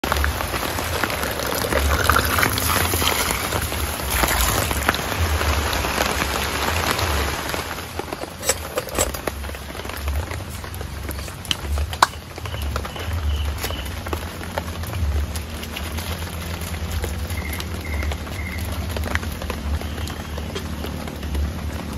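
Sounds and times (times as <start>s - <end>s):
heavy rain falling: 0.0s - 21.9s
scattered raindrop hits: 0.0s - 21.9s.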